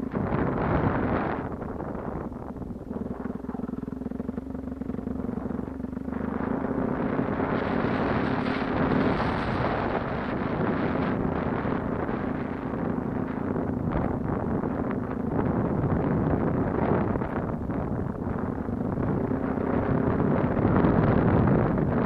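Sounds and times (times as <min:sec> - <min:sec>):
dirt bike engine running: 0:00.0 - 0:22.0
wind buffeting microphone: 0:00.0 - 0:22.0.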